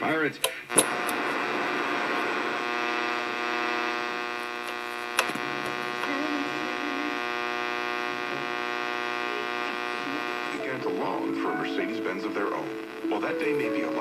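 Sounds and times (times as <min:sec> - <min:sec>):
car radio electrical hum: 0:00.8 - 0:14.0.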